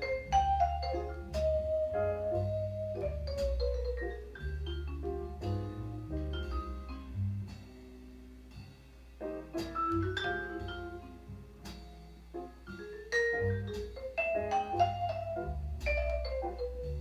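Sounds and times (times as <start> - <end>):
jazz record over loudspeakers: 0.0 - 17.0
low bass notes: 0.0 - 17.0.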